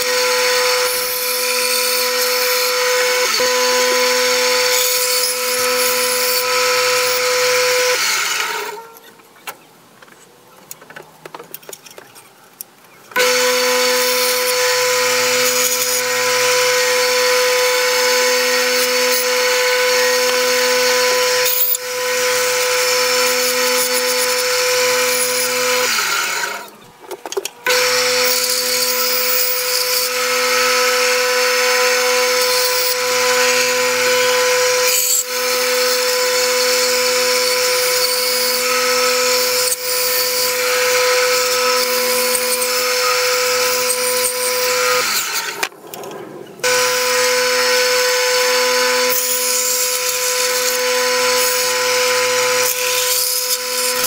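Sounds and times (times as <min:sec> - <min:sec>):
bandsaw humming and whining: 0:00.0 - 0:09.1, 0:13.1 - 0:26.8, 0:27.6 - 0:45.8, 0:46.5 - 0:54.0
saw blade cutting wood: 0:00.0 - 0:09.2, 0:13.1 - 0:54.0.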